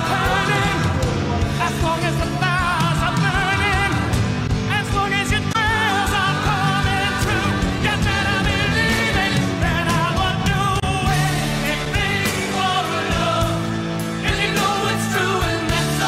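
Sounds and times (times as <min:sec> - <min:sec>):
band with drums: 0:00.0 - 0:16.0.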